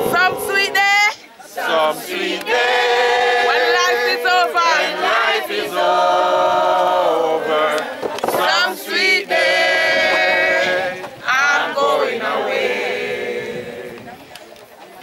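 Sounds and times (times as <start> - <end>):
group singing a hymn: 0.0 - 14.4.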